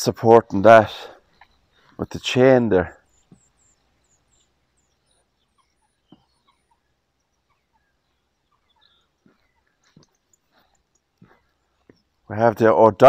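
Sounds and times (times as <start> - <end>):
faint bird chirps: 1.1 - 12.3.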